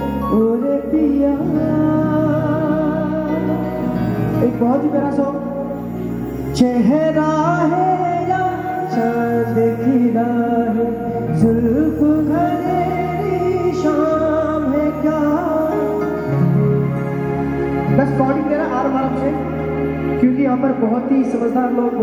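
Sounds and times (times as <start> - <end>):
keyboard and bass chords: 0.0 - 22.0
man singing wordless melody: 0.0 - 22.0.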